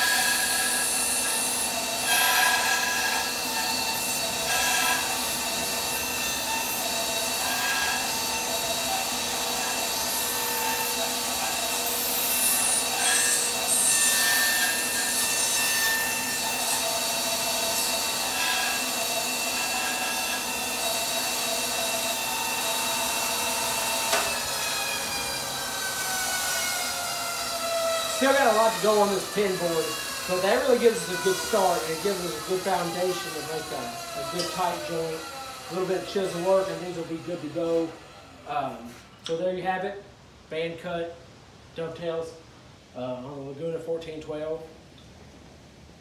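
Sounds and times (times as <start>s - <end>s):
bandsaw blade cutting wood: 0.0s - 38.0s
bandsaw humming and whining: 0.0s - 39.1s.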